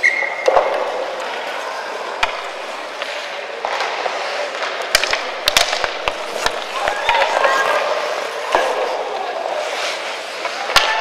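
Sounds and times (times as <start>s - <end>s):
arena hubbub: 0.0s - 11.0s
hockey sticks clacking: 0.0s - 11.0s
skates hissing on ice: 0.9s - 11.0s.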